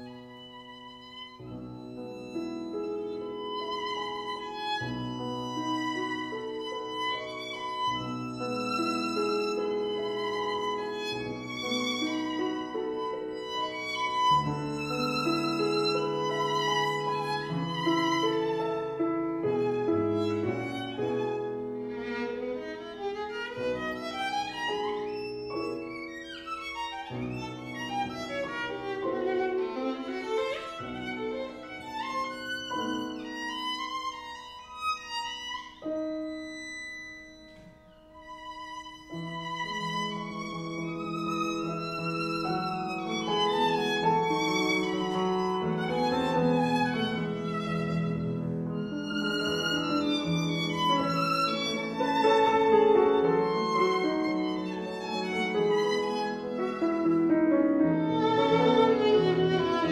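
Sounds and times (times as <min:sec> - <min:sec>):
violin playing classical music: 0:00.0 - 0:59.9.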